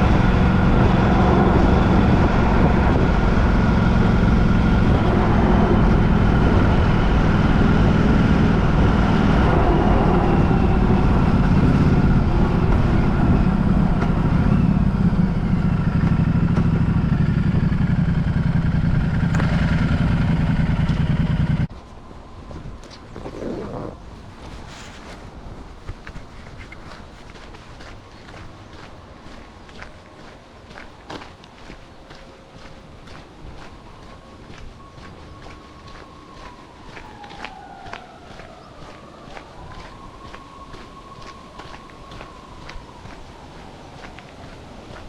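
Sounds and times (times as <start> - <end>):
road noise: 0.0 - 45.0
vehicle engine hum: 0.0 - 45.0.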